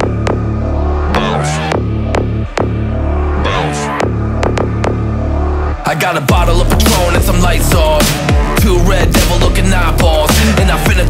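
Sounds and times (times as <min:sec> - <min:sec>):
deep sustained bass: 0:00.0 - 0:11.0.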